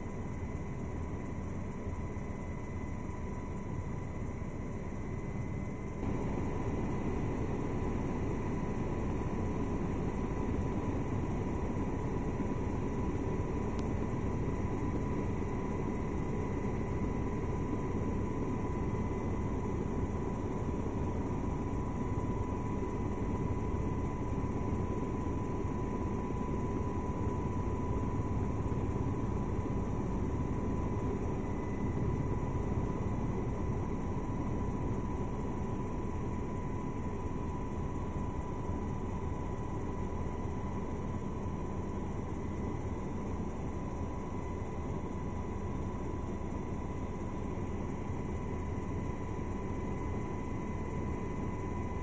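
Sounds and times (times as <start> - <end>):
helicopter engine and rotor rumble: 0.0 - 52.0.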